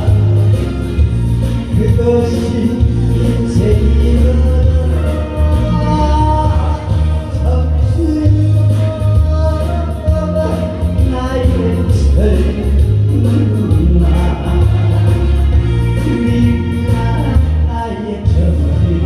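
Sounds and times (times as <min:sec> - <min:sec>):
loud music with heavy bass: 0:00.0 - 0:19.0
person singing: 0:00.0 - 0:19.0.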